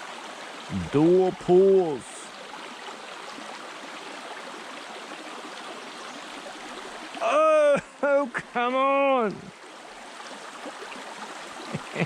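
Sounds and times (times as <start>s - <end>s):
mountain stream running: 0.0s - 12.0s.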